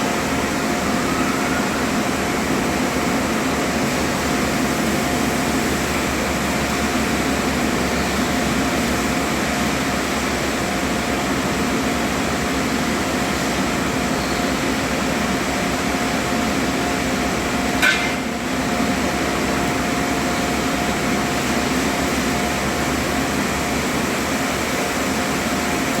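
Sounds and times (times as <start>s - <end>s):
machine hum and hiss: 0.0s - 26.0s.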